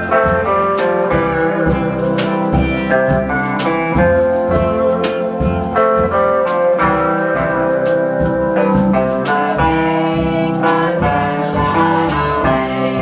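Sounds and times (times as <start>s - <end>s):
drum and cymbal hits: 0.0s - 13.0s
swing band playing: 0.0s - 13.0s.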